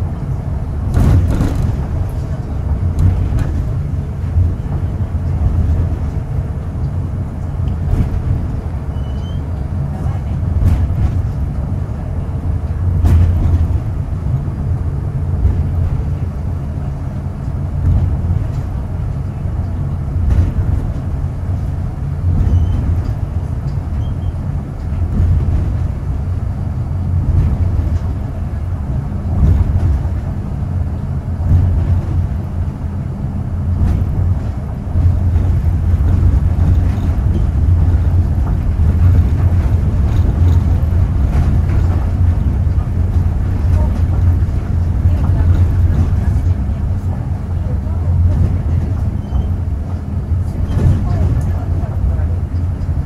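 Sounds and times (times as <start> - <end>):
train running low rumble: 0.0 - 53.0.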